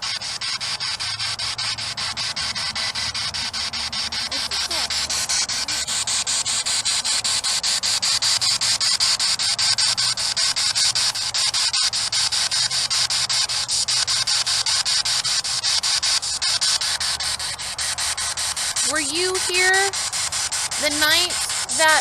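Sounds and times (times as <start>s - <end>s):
low hum: 0.0s - 22.0s
pulsing radio static: 0.0s - 22.0s.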